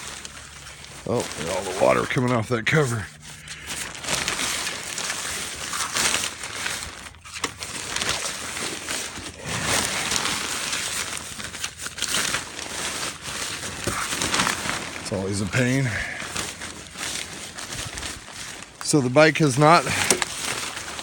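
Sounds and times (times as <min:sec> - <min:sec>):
fabric cover rustling and crinkling: 0:00.0 - 0:21.0.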